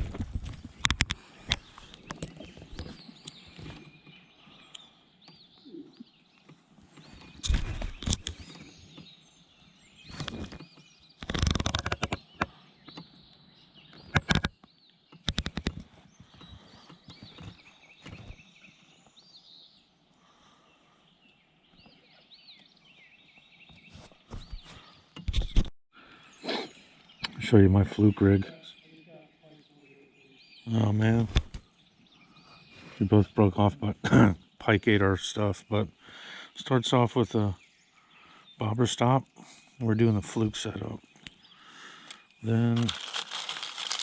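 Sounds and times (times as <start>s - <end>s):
small birds chirping: 0.0s - 25.3s, 26.0s - 44.0s.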